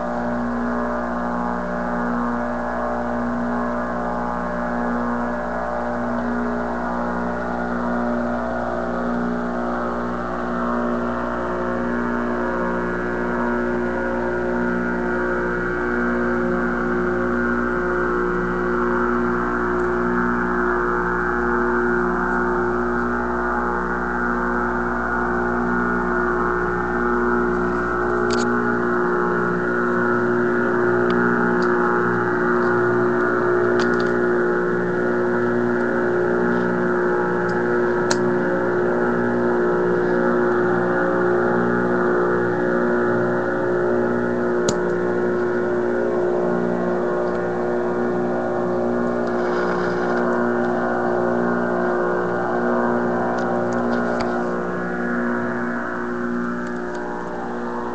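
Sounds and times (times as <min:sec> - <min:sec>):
low hum: 0:00.0 - 0:57.9
shortwave radio drone with hiss: 0:00.0 - 0:57.9.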